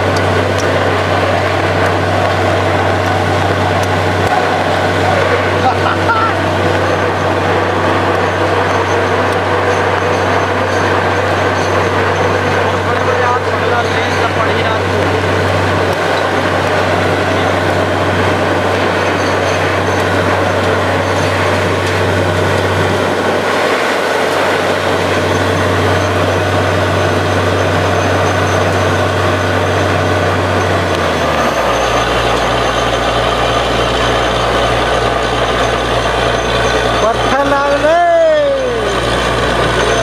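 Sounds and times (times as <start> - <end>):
air compressor blowing: 0.0 - 40.0
drilling rig drilling: 0.0 - 40.0
low engine hum: 0.0 - 40.0.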